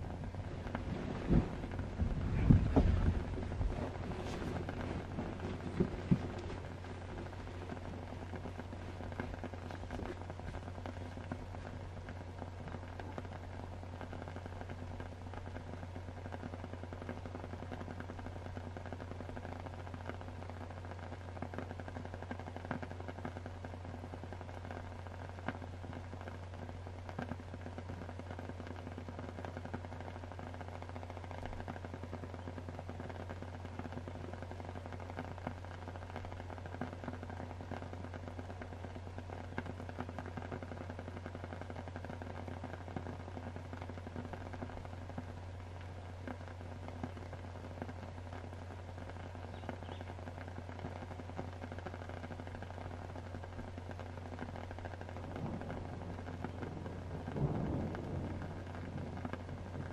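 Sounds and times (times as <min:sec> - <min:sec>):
low hum: 0:00.0 - 0:59.9
sharp crackling pops: 0:00.0 - 0:59.9
steady rain: 0:00.0 - 0:59.9.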